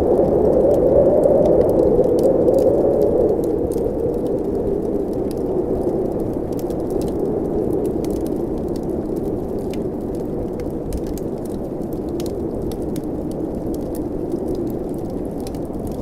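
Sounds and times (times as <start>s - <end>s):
blizzard wind blowing: 0.0s - 16.0s
wood fire crackling: 0.0s - 16.0s.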